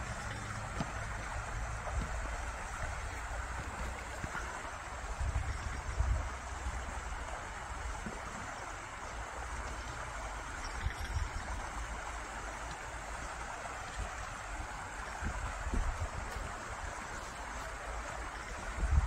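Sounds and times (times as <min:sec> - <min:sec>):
stream babbling over stones: 0:00.0 - 0:19.0.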